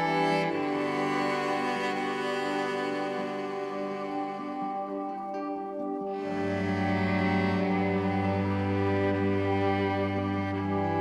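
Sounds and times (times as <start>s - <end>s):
slow new-age instrumental music: 0.0s - 11.0s.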